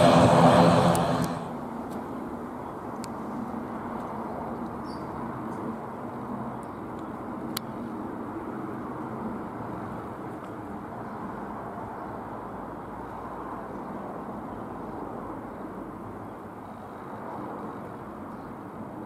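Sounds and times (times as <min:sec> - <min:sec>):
light aeroplane engine droning: 0:00.0 - 0:19.0.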